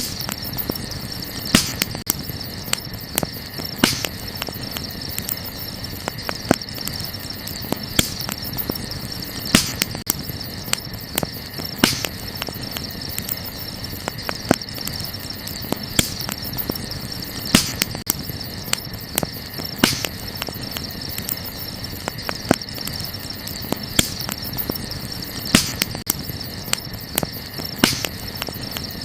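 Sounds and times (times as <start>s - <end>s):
burning wood crackling: 0.0s - 29.0s
crickets chirring: 0.0s - 29.0s.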